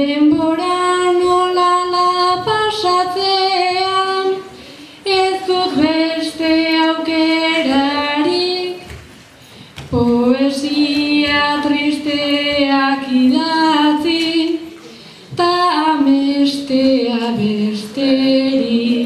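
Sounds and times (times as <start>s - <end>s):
girl singing unaccompanied: 0.0s - 9.0s, 9.9s - 19.0s.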